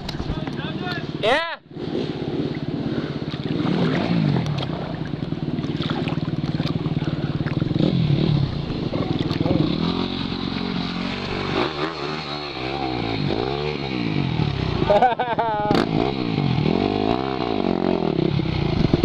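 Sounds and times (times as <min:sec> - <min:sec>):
dirt bike engine revving: 0:00.2 - 0:19.0.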